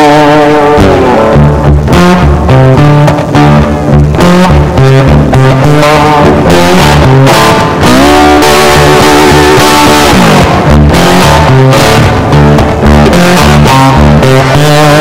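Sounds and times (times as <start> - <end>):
guitar and bass music: 0.0 - 15.0.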